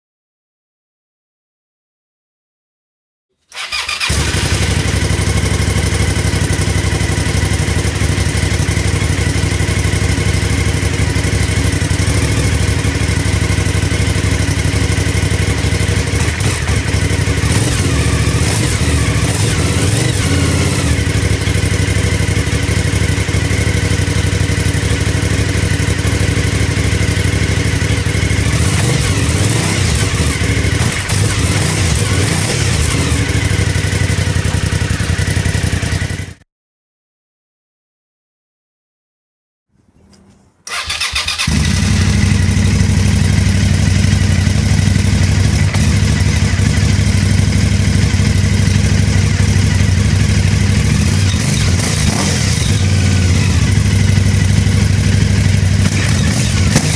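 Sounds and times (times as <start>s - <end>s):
motorcycle engine idling: 3.6s - 36.4s, 40.7s - 56.9s.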